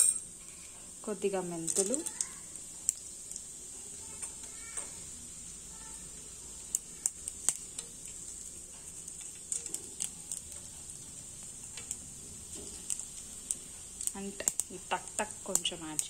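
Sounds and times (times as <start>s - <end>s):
seeds popping and crackling: 0.0s - 16.0s
seeds sizzling in hot oil: 0.0s - 16.0s.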